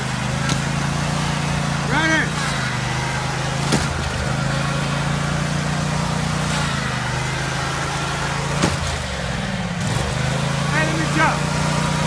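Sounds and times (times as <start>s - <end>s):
riding lawn mower engine: 0.0s - 12.0s.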